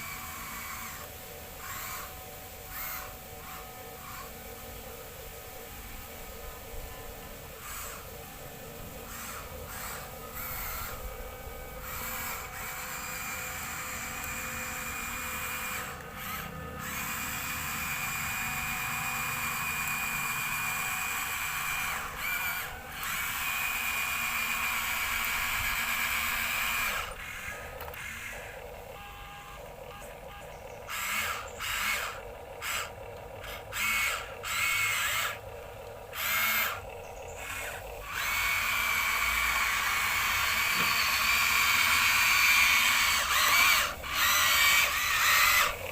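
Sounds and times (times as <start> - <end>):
toy electric motors whining: 0.0 - 45.9.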